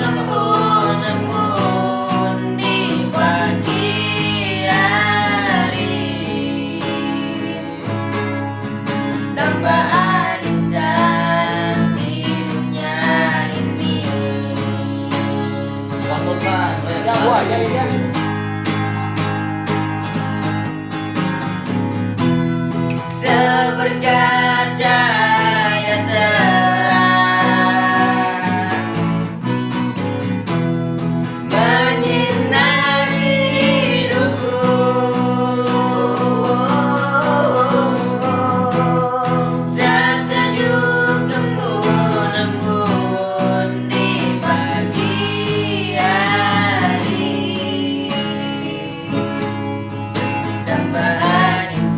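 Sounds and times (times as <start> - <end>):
person singing slow song: 0.0 - 8.3, 9.1 - 16.4, 22.9 - 29.3, 31.4 - 51.9
guitar accompaniment: 0.0 - 51.9.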